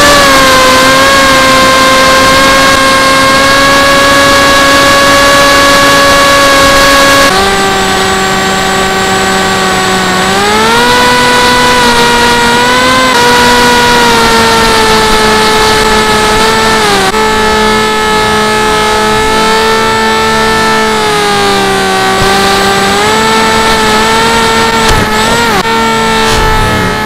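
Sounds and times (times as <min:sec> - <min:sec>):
electric plane propeller buzzing: 0:00.0 - 0:27.0.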